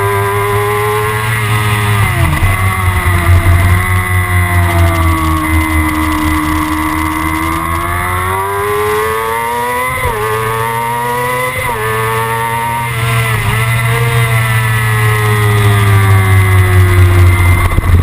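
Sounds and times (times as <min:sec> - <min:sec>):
motorcycle engine revving with upshifts: 0:00.0 - 0:18.0.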